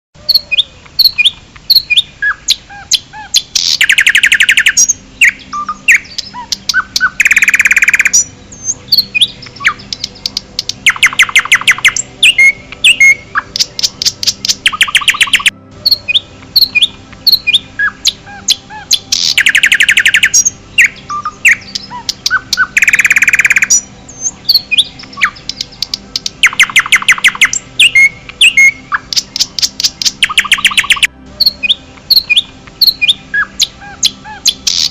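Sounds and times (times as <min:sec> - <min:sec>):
songbirds chirping and singing: 0:00.2 - 0:34.9
loud rapid bird trill: 0:00.3 - 0:34.9.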